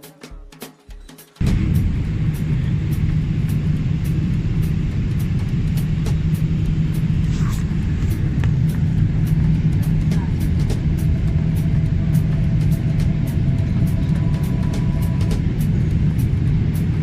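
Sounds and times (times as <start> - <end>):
jet engine cabin rumble: 1.4 - 17.0.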